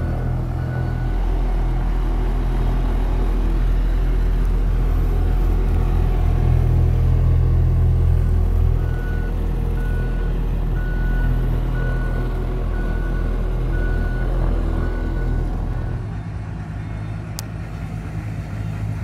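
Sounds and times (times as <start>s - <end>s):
road roller diesel engine rumble: 0.0s - 19.0s.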